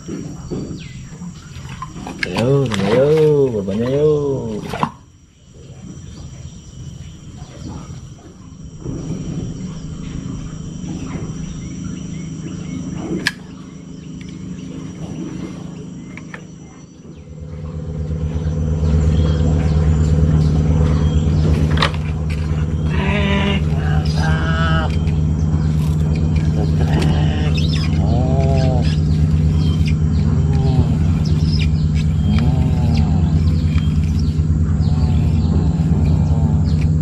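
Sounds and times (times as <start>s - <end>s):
pulsing engine drone: 0.0s - 37.0s.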